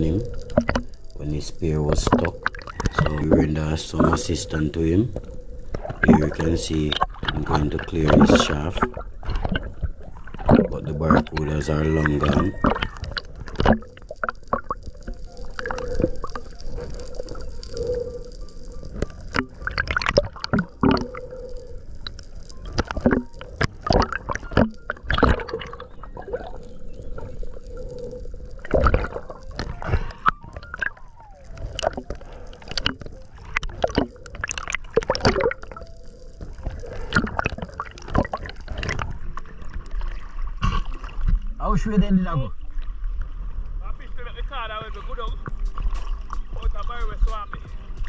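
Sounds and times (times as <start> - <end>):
water gurgling and sloshing: 0.0 - 48.0.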